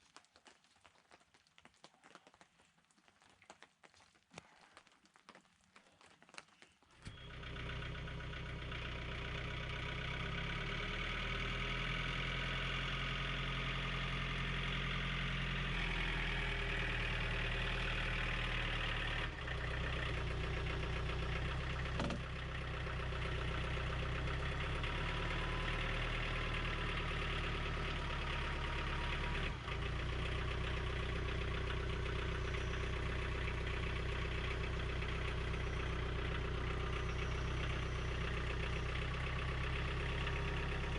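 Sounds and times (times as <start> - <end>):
engine idling: 7.0 - 40.9.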